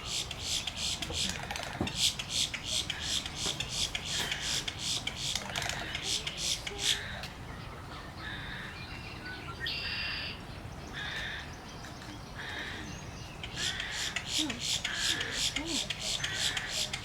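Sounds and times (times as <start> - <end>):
birds calling harshly: 0.0 - 17.0.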